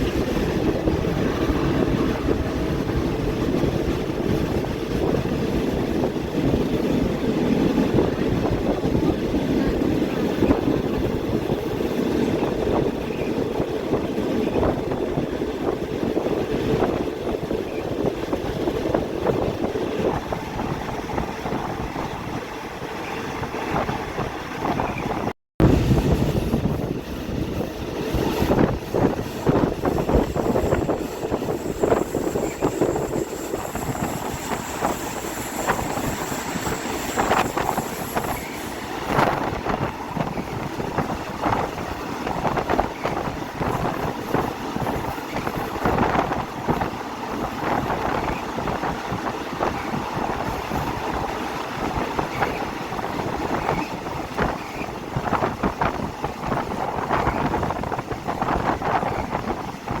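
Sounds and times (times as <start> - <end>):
train rushing noise: 0.0 - 60.0.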